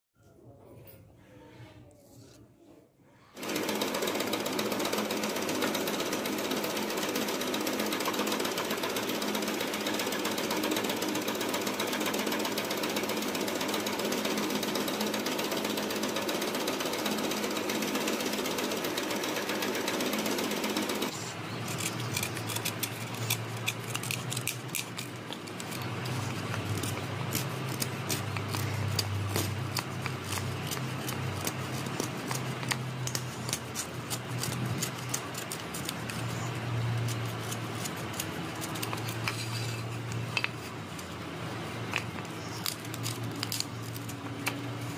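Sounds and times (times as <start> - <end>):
scroll saw cutting wood: 3.4 - 40.8.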